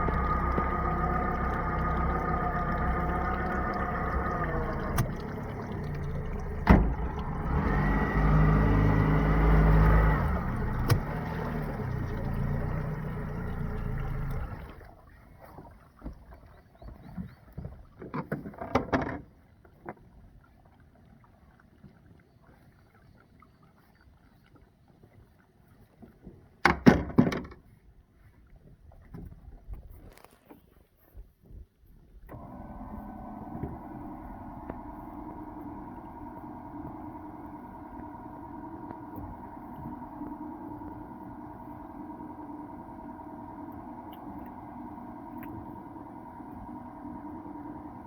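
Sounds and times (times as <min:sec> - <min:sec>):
small boat motor running: 0:00.0 - 0:27.6, 0:32.2 - 0:48.0.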